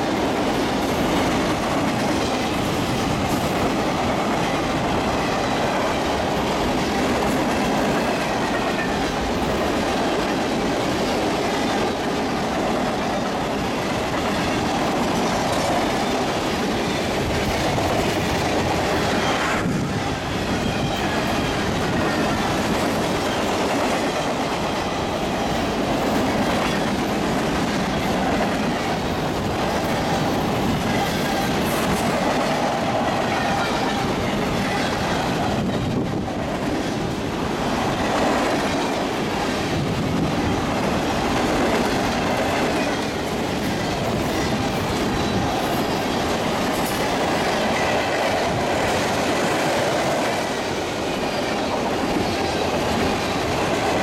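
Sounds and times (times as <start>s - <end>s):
freight train wheels rolling on rails: 0.0s - 54.0s.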